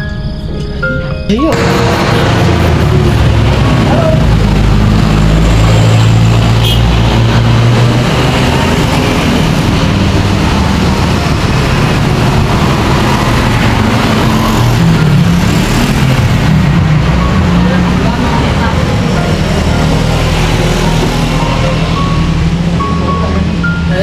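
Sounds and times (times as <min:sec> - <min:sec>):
engine humming: 0:00.4 - 0:24.0.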